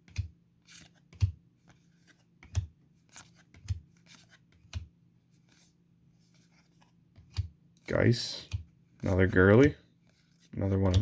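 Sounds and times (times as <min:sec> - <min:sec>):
cards sliding and rustling: 0:00.1 - 0:11.0.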